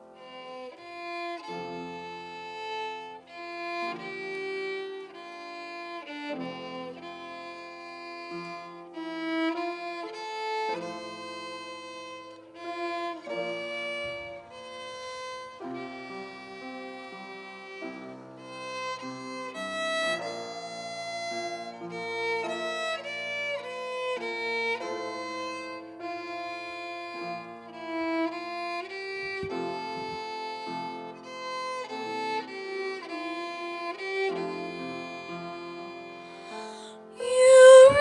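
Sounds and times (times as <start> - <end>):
violin melody: 0.0 - 38.0.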